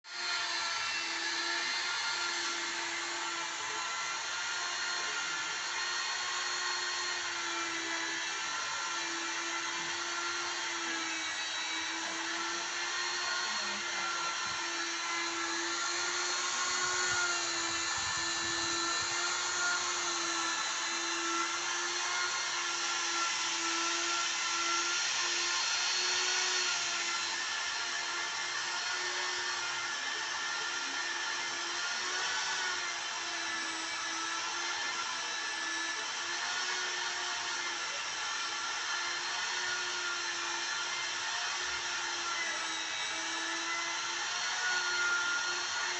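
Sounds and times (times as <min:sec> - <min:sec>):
mini grinder motor whining: 0:00.0 - 0:45.9.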